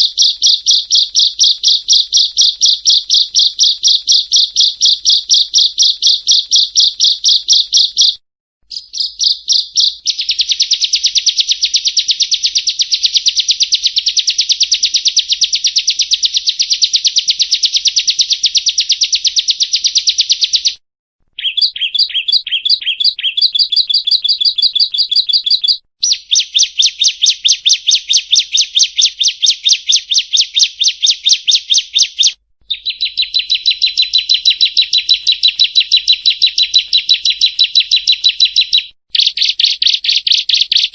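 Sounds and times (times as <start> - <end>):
bird trilling: 0.0 - 20.8, 21.4 - 40.9.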